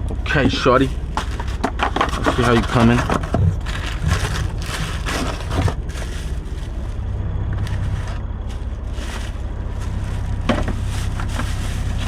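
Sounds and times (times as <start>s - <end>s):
rustling handling noise: 0.0s - 12.0s
truck engine idling: 0.0s - 12.0s.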